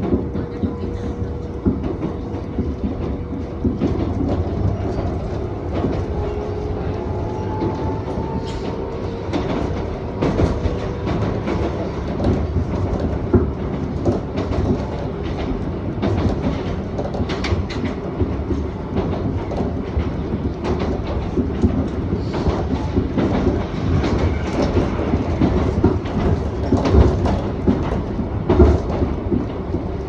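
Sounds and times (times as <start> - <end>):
train running noise inside car: 0.0 - 30.0
wheels clicking over rail joints: 0.0 - 30.0.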